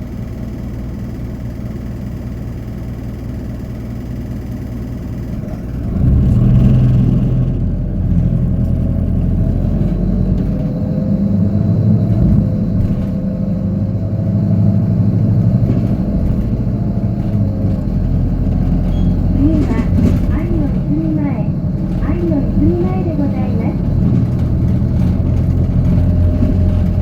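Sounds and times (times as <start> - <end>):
bus diesel engine revving: 5.1 - 27.0.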